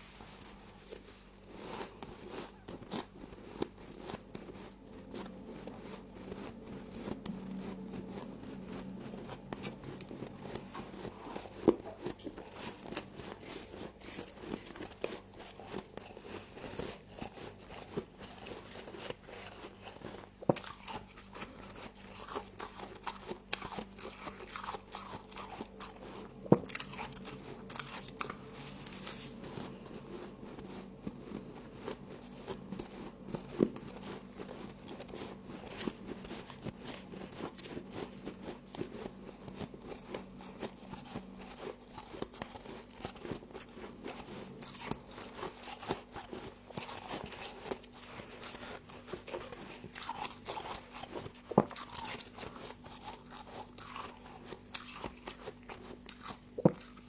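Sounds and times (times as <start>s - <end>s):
crunching and chewing frost: 0.0s - 57.0s.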